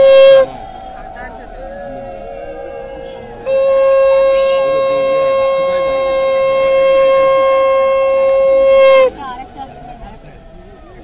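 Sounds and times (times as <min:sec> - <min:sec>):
conch shell blown: 0:00.0 - 0:09.5.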